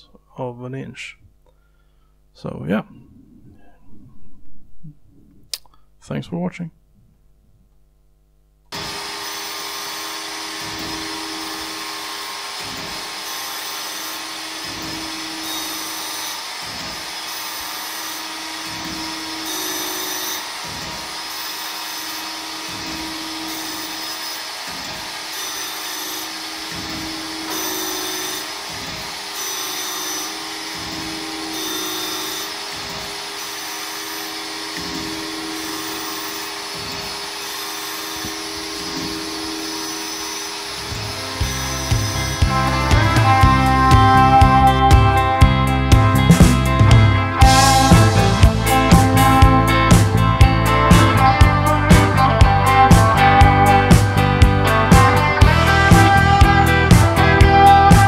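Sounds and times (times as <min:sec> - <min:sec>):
surface grinder running: 0:08.7 - 0:58.0.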